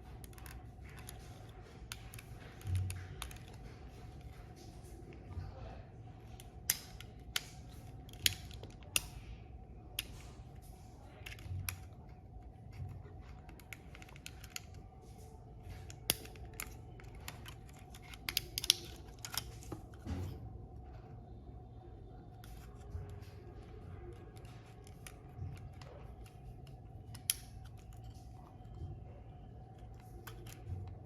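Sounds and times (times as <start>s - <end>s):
clicks of small plastic parts: 0.2s - 4.9s, 6.2s - 9.3s, 9.9s - 20.3s, 22.4s - 28.9s, 29.6s - 31.0s.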